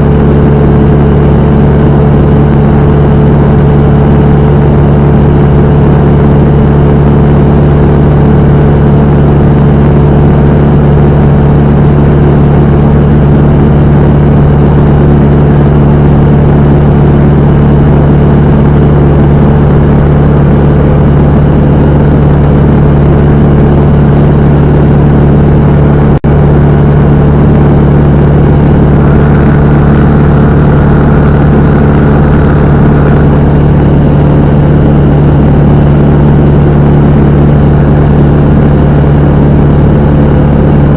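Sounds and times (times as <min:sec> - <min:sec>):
small plane engine and propeller: 0:00.0 - 0:40.9.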